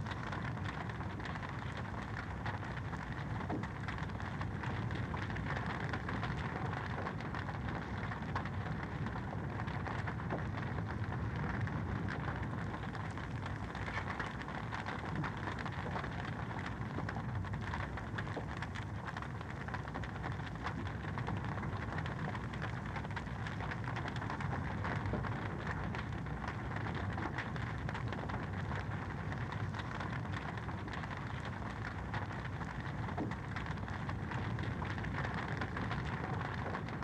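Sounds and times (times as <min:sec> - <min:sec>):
low rumble of flames: 0:00.0 - 0:37.0.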